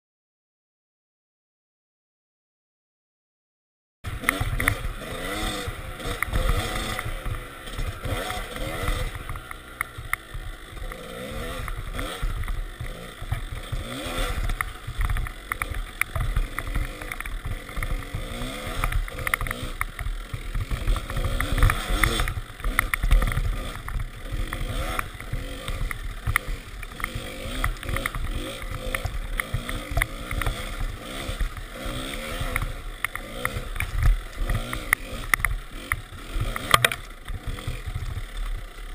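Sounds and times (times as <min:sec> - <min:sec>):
dirt bike engine revving: 0:04.1 - 0:38.9.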